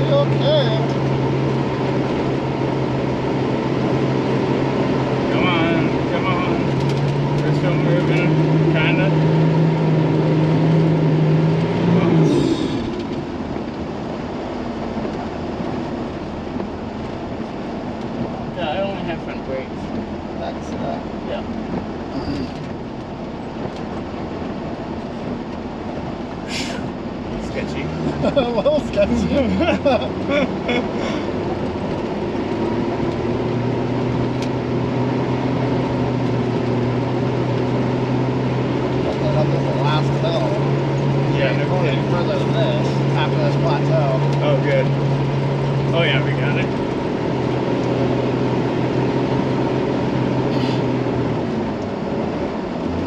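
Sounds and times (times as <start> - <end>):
tires rushing through snow: 0.0 - 53.0
truck engine: 0.0 - 53.0.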